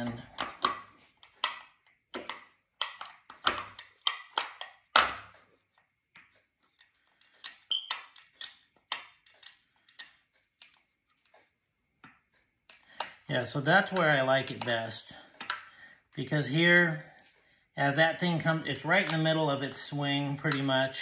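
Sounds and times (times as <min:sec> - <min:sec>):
sharp metal clicks and knocks: 0:00.0 - 0:11.5, 0:12.1 - 0:15.7, 0:17.9 - 0:21.0.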